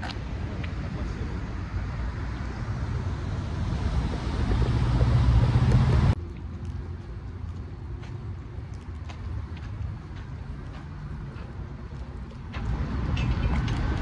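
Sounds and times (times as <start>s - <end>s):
passing cars: 0.0s - 14.0s
vehicle engine hum: 0.0s - 14.0s.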